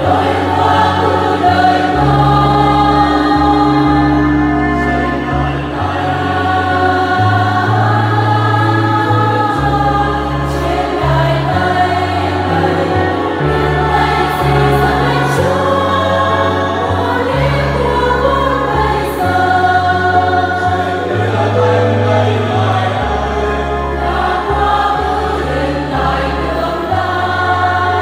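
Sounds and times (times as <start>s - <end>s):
choir singing a hymn: 0.0s - 28.0s
low bass notes: 0.0s - 28.0s.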